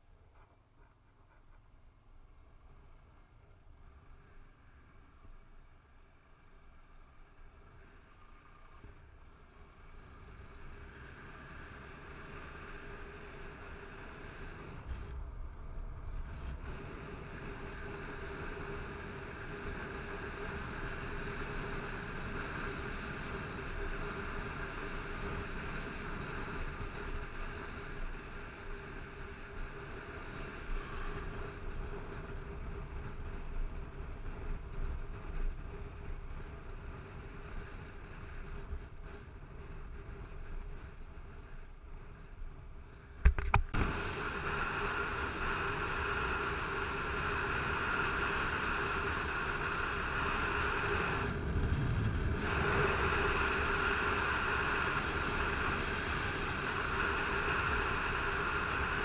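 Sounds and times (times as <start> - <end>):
wind rushing over camera: 6.6 - 59.0.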